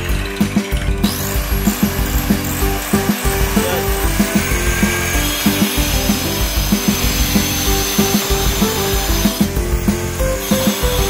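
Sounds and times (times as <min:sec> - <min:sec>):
angle grinder cutting stone: 0:00.0 - 0:11.0
music with a regular beat: 0:00.0 - 0:11.0.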